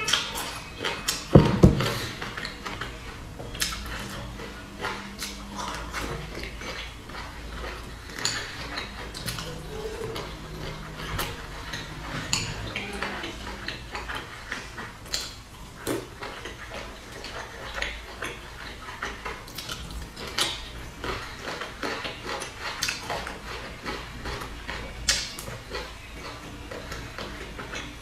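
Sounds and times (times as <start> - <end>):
wet chewing: 0.0 - 28.0.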